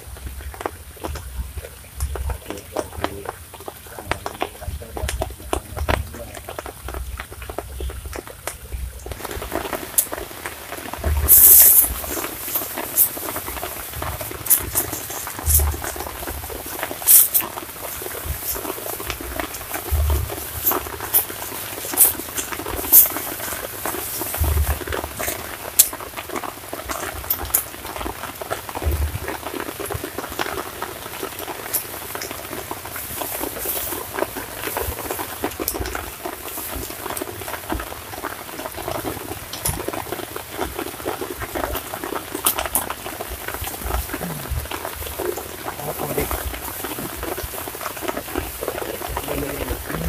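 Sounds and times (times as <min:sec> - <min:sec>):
water pattering onto pond: 0:00.0 - 0:50.0.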